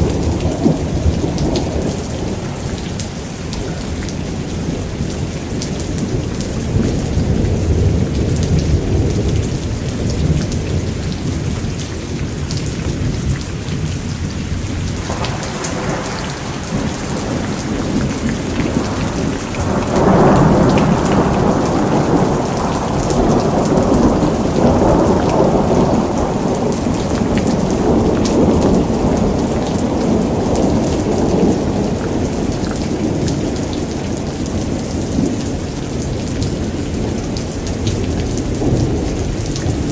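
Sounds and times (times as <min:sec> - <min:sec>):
steady rain: 0:00.0 - 0:39.9
rolling thunder: 0:05.5 - 0:39.9.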